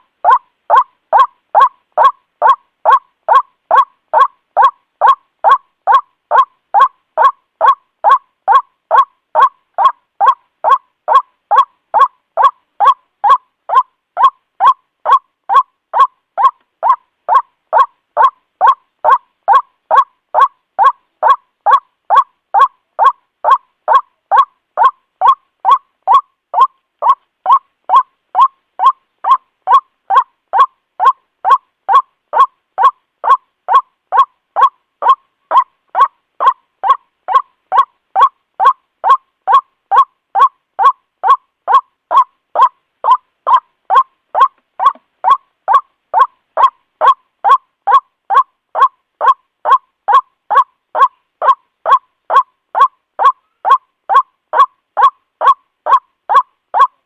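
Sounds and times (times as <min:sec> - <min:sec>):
bird harsh repeated call: 0:00.0 - 0:57.0.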